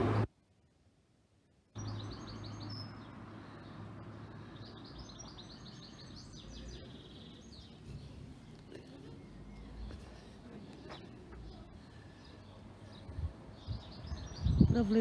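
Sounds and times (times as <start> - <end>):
songbird singing: 1.7 - 15.0.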